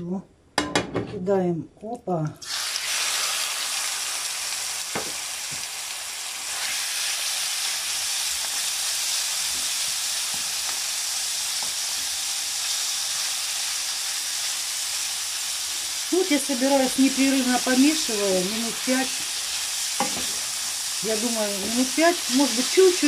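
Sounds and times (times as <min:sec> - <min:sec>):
chicken sizzling in oil: 0:02.4 - 0:23.0.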